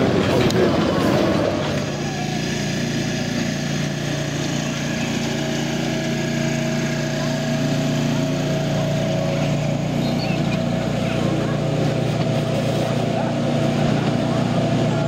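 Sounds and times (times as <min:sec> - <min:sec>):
miniature locomotive engine running: 0:00.0 - 0:15.0.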